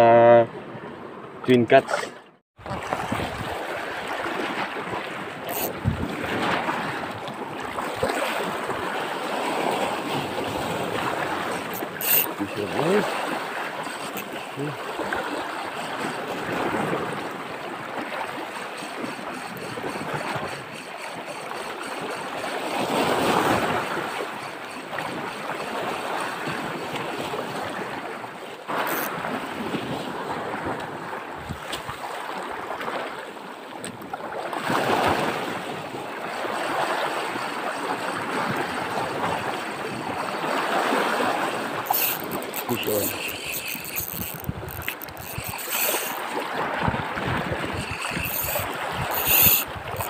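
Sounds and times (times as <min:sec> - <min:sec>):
waves lapping against rocks: 0:01.7 - 0:50.0.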